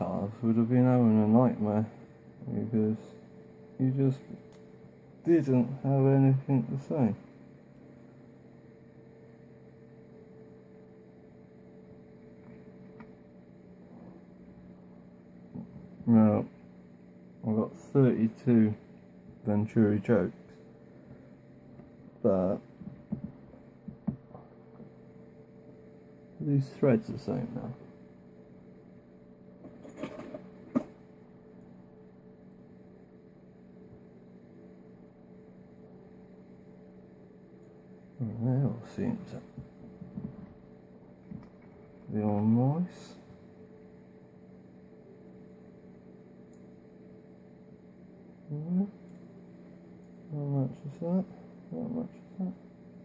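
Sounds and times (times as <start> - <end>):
electrical hum: 0.0 - 53.0.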